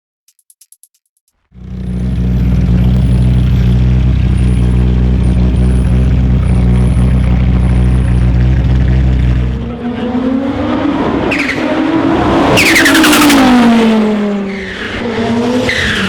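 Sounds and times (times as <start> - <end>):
race car engine running: 1.6 - 16.0.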